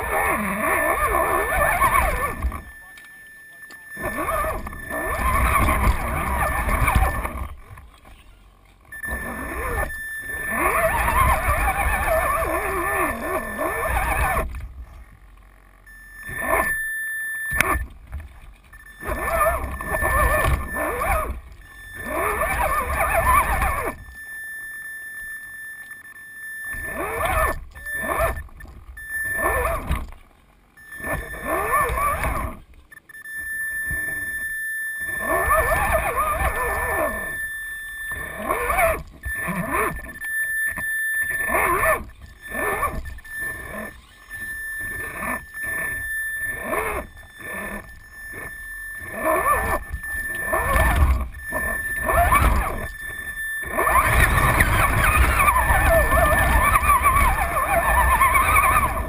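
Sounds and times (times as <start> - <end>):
toy motor and gears whining: 0.0 - 59.0.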